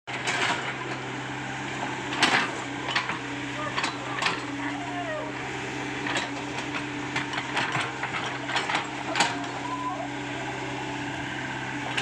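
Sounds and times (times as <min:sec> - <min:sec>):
excavator diesel engine running: 0:00.1 - 0:12.0.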